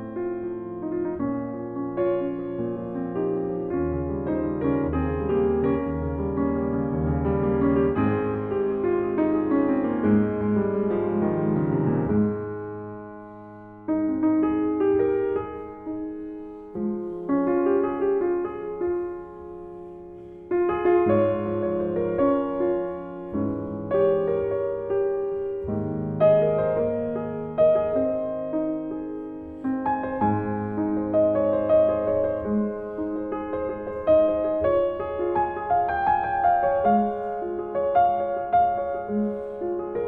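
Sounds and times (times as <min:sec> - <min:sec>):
solo piano piece: 0:00.0 - 0:40.0.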